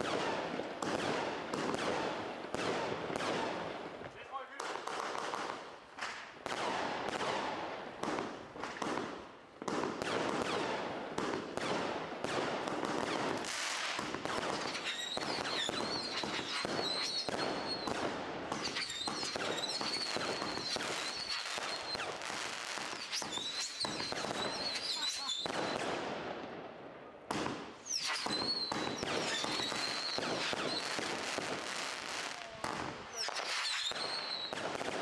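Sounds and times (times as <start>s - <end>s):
fireworks firing with crackling: 0.0s - 26.7s, 27.3s - 35.0s.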